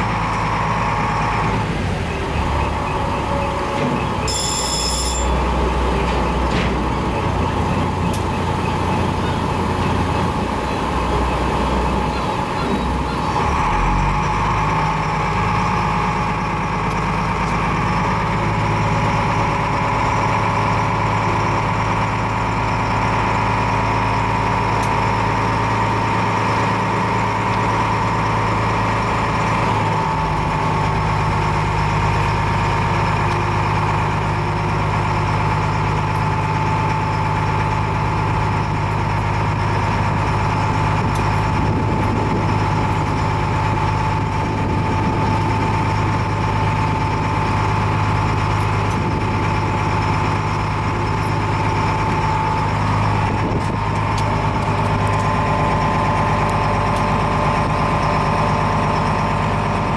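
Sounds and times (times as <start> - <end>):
ferry engine hum and whine: 0.0 - 59.9.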